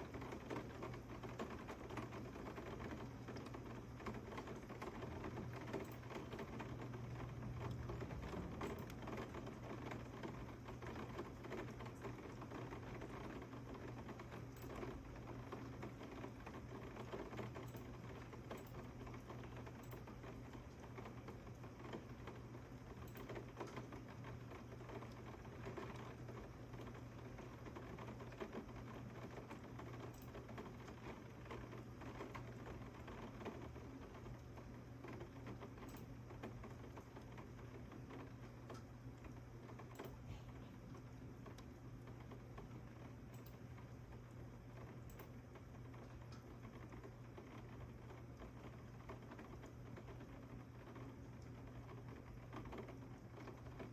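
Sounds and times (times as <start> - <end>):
rain pattering: 0.0 - 40.0, 40.8 - 53.9
low steady hum: 0.0 - 53.9.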